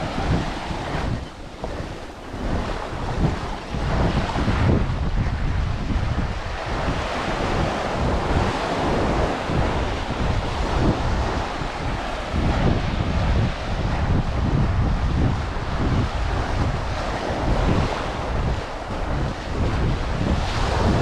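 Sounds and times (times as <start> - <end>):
surf breaking on a beach: 0.0 - 21.0
wind buffeting microphone: 0.0 - 21.0.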